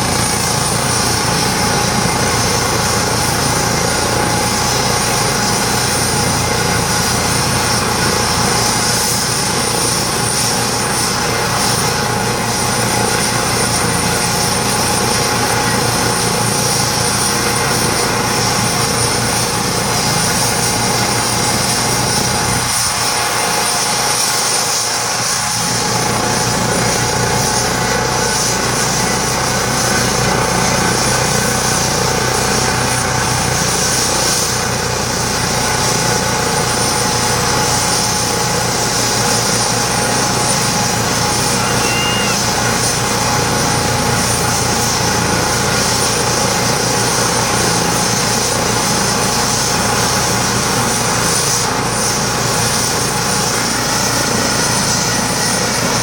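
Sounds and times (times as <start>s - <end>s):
propeller aircraft engine: 0.0s - 56.0s.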